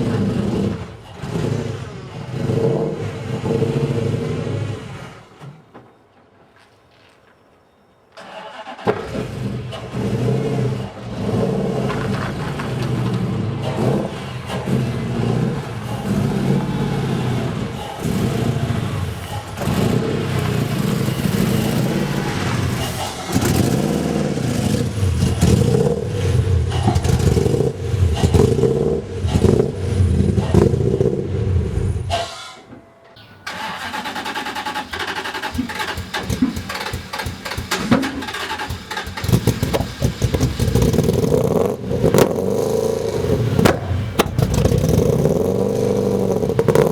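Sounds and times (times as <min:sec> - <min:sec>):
car engine revving: 0:00.0 - 0:05.7, 0:08.3 - 0:32.4, 0:33.2 - 0:46.9.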